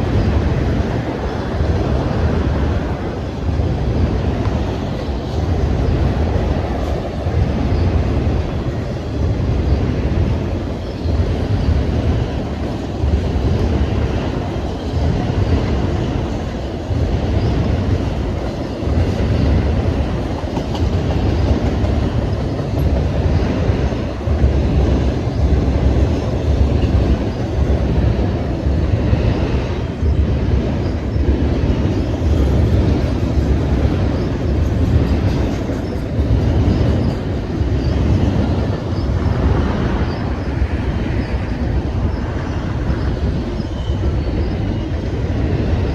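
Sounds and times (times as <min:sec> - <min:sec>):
freight train rumbling past: 0:00.0 - 0:45.9.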